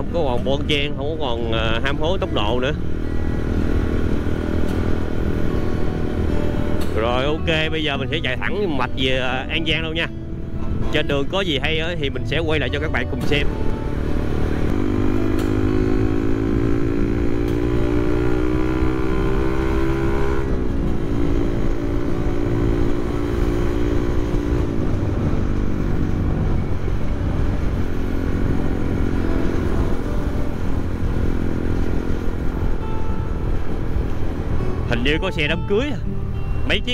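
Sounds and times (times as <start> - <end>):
wind and road noise: 0.0 - 36.9
motorcycle engine accelerating: 1.6 - 9.4, 12.6 - 36.9.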